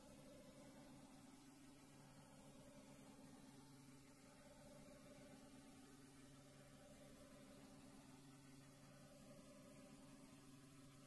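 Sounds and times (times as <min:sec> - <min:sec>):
faint steady hiss: 0:00.0 - 0:11.0
low hum: 0:00.0 - 0:11.0.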